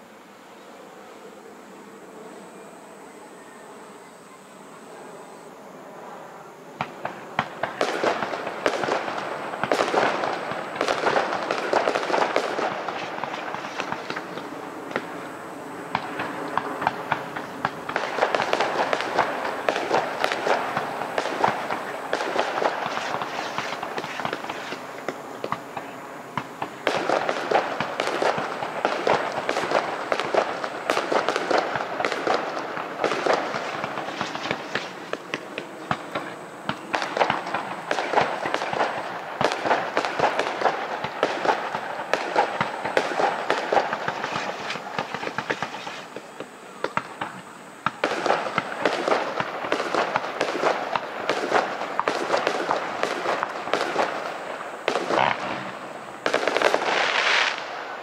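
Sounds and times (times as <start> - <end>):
fireworks bangs and crackles: 6.8 - 58.0.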